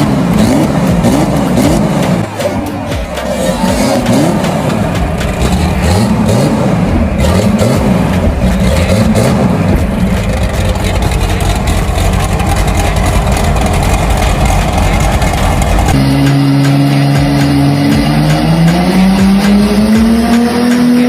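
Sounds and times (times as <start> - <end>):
car engine running loud: 0.0 - 21.0
deep exhaust rumble: 0.0 - 21.0.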